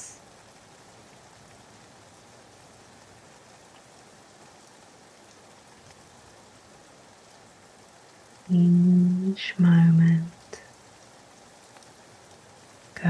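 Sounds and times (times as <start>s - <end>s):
soft steady rain: 0.0s - 13.0s.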